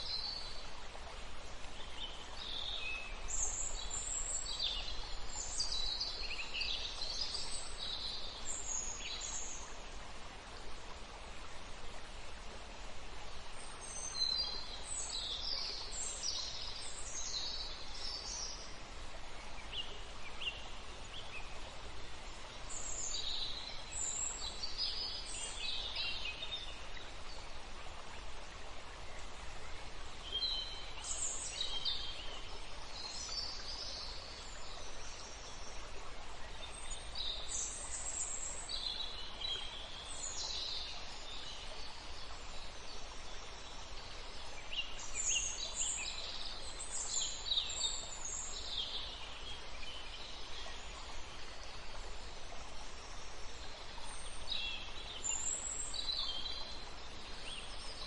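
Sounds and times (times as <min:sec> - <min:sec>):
outdoor background hiss: 0:00.0 - 0:58.0.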